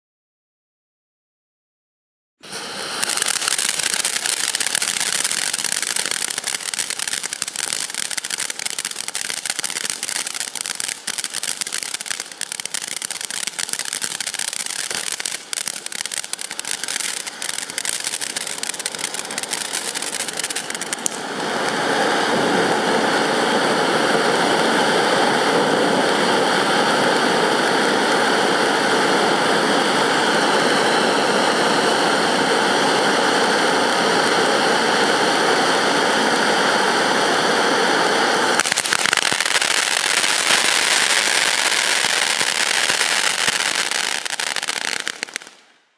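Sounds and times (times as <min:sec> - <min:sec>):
firework fountain hissing and crackling: 0:02.4 - 0:45.9.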